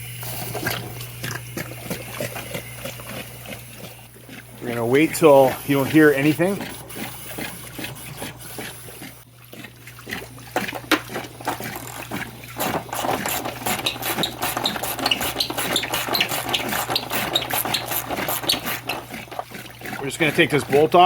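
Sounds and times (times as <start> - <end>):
water draining and gurgling: 0.0 - 21.0.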